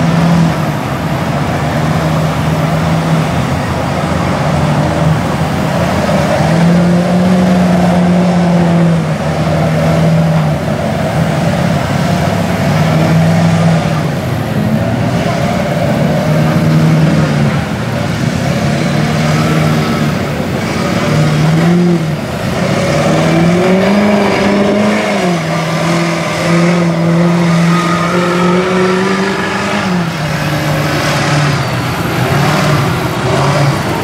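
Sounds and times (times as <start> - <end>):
truck engine revving in mud: 0.0 - 34.0.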